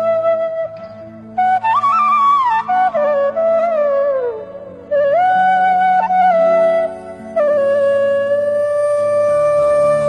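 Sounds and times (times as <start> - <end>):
flute long note: 0.0 - 10.0
low musical accompaniment: 0.0 - 10.0.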